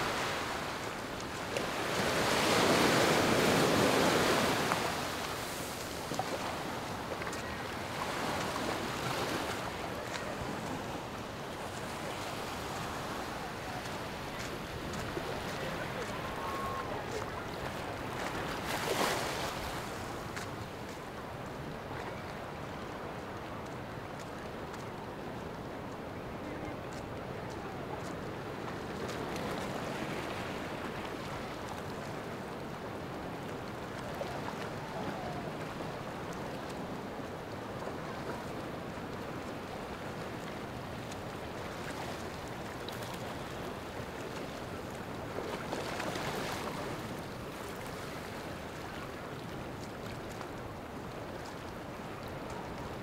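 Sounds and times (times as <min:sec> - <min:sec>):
ocean surf washing onto beach: 0:00.0 - 0:53.0.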